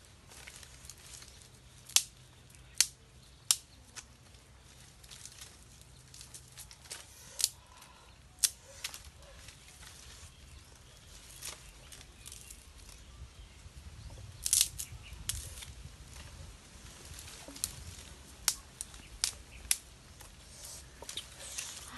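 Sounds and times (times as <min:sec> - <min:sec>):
dry sticks cracking and clattering: 0:00.2 - 0:13.1, 0:14.2 - 0:21.9.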